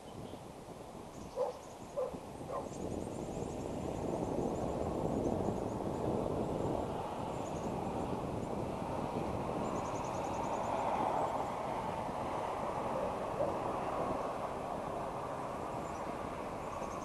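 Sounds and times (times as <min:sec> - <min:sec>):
distant engine noise: 0:00.0 - 0:17.0.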